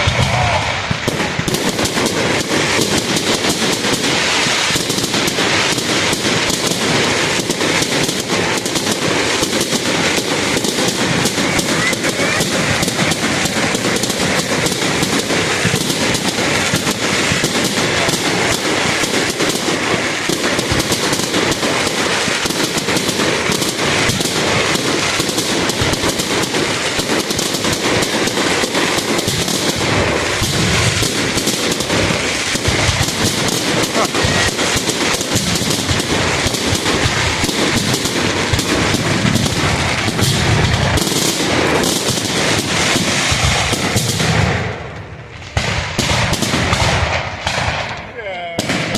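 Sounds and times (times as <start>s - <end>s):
fireworks banging and crackling: 0.0s - 48.9s.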